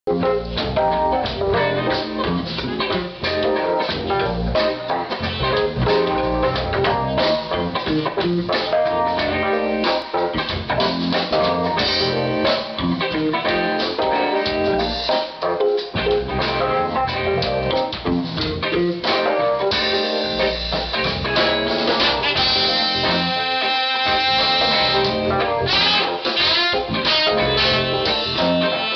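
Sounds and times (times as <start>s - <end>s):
funk band playing: 0.1s - 28.9s.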